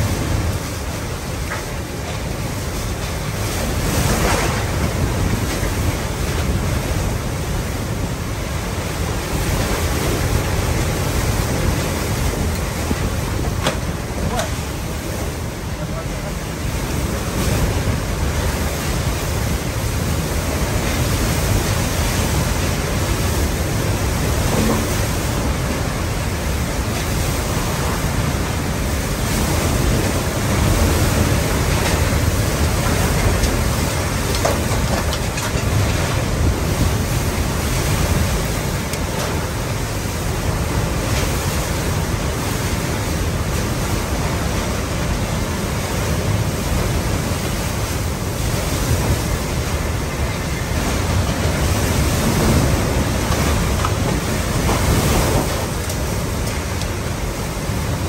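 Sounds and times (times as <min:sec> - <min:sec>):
driven rain: 0:00.0 - 0:58.0
hurricane-force wind: 0:00.0 - 0:58.0.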